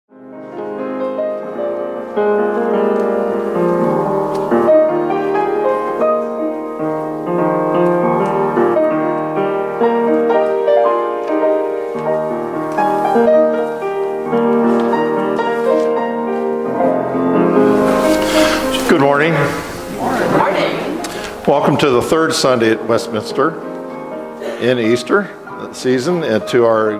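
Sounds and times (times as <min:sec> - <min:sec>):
slow gentle piano piece: 0:00.1 - 0:26.9.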